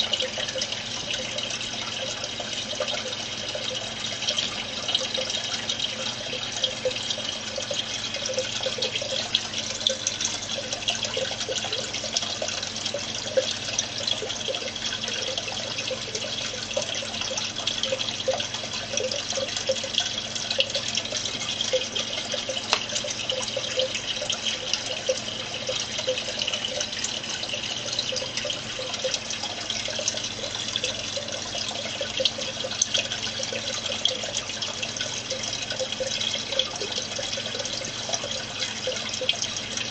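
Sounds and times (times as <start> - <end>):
aquarium water bubbling: 0.0 - 39.9
low steady hum: 0.0 - 39.9.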